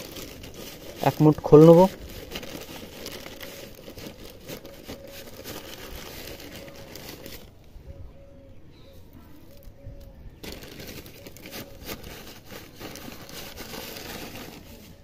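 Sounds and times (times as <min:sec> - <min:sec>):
dry crinkling and rustling by hand: 0:00.0 - 0:08.0, 0:08.8 - 0:15.0.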